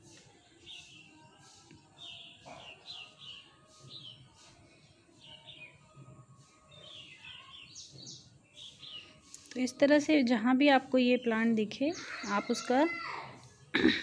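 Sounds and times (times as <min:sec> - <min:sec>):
birds chirping faintly: 0:00.0 - 0:14.0.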